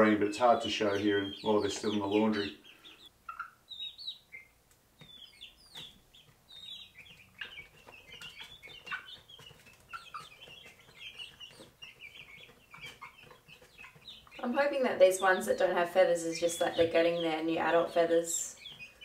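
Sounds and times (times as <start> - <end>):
chicks cheeping: 0.0 - 19.0.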